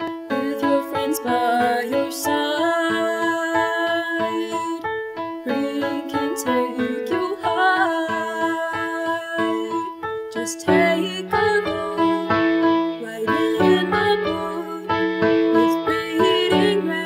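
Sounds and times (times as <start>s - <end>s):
upbeat keyboard music: 0.0s - 17.0s.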